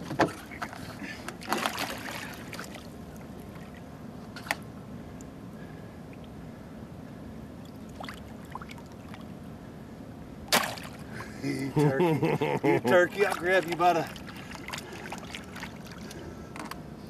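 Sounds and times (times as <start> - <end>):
boat low hum: 0.0 - 17.0.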